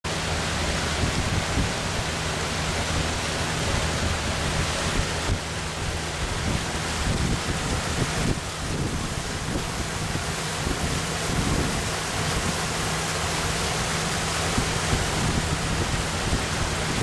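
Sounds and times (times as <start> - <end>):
moving water: 0.0 - 17.0
wind on microphone: 0.1 - 17.0.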